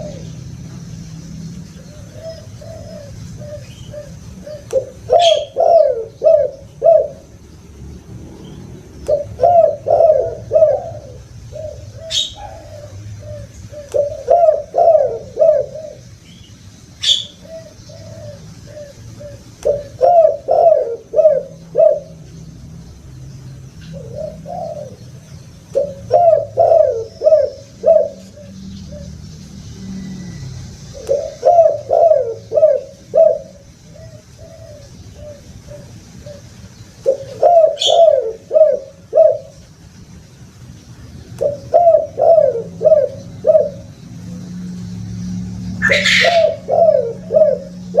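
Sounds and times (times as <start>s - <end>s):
dove cooing: 0.0s - 0.8s, 1.7s - 7.4s, 8.9s - 16.2s, 17.0s - 22.3s, 23.9s - 39.7s, 41.4s - 45.0s, 45.6s - 48.0s.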